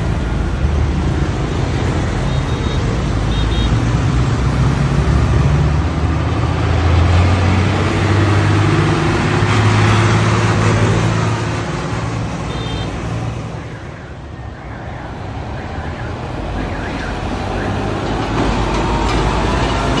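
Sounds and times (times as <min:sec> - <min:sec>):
diesel truck engines droning: 0:00.0 - 0:20.0
tyre and traffic noise: 0:00.0 - 0:20.0.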